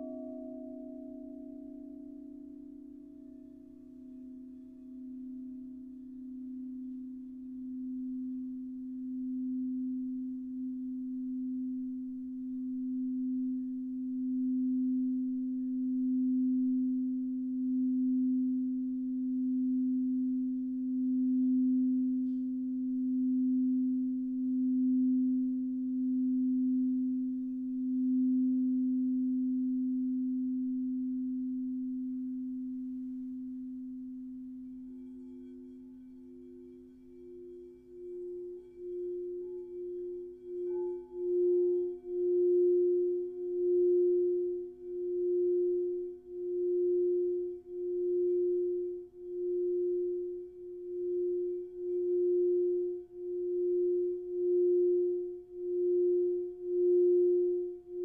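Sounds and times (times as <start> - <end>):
higher singing bowl tone: 0.0 - 58.0
low singing bowl tone: 0.0 - 58.0.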